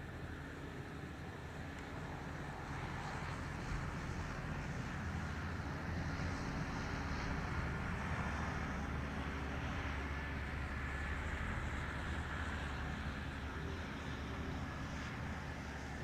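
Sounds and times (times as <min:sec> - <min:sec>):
motor droning at low pitch: 0:00.0 - 0:16.0
outdoor background noise: 0:00.0 - 0:16.0.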